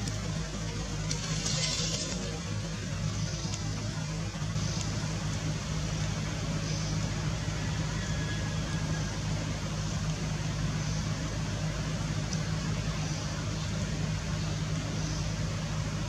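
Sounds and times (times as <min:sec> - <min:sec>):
constant hiss: 0:00.0 - 0:16.0
low mechanical hum: 0:00.0 - 0:16.0.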